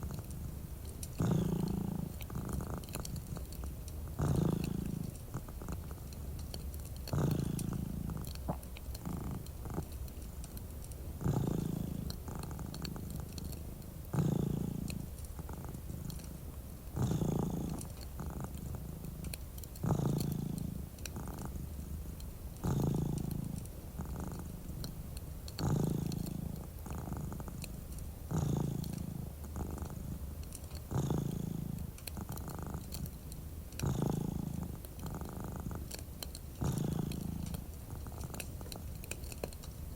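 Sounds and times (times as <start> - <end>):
cat purring: 0.0 - 39.9
faint fireplace crackles: 0.0 - 39.9.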